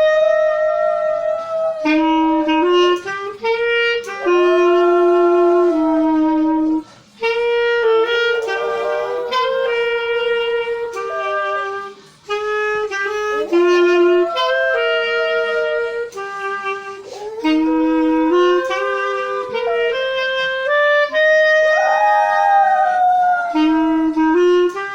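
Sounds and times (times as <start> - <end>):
dog howling: 0.0 - 2.6, 4.0 - 6.8, 7.8 - 16.2, 16.9 - 24.3
clarinet playing slow hymn: 0.0 - 24.9.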